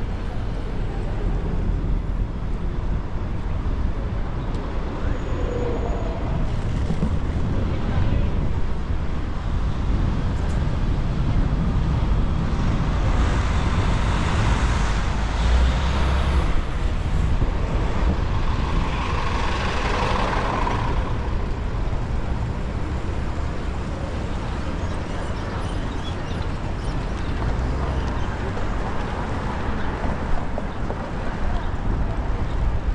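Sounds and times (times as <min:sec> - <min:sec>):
city street traffic: 0:00.0 - 0:32.9
wind and road rumble: 0:00.0 - 0:32.9.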